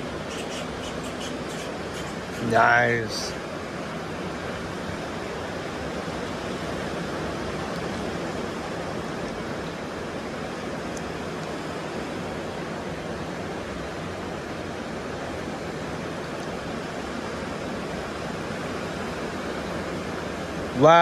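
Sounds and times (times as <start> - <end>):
ocean surf hissing: 0.0 - 21.0.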